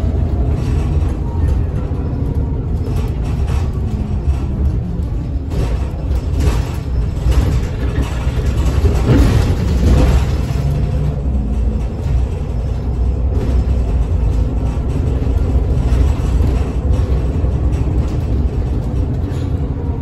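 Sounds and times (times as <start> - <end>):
bus engine and road drone: 0.0 - 20.0.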